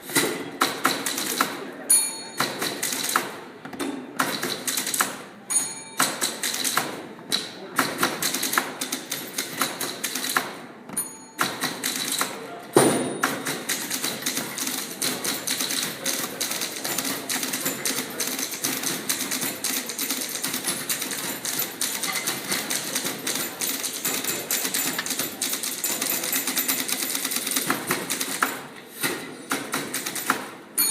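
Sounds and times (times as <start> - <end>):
typewriter keystrikes clattering: 0.0 - 1.6, 2.4 - 3.4, 4.2 - 10.6, 11.4 - 30.9.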